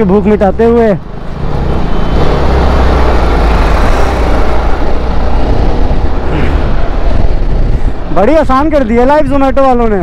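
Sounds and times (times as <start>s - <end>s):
motorcycle engine drone: 0.0s - 9.5s
wind and road noise: 0.0s - 10.0s.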